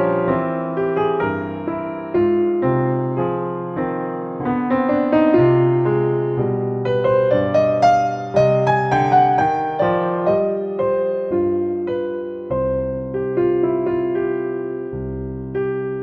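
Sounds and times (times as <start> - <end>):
soft slow piano music: 0.0 - 16.0.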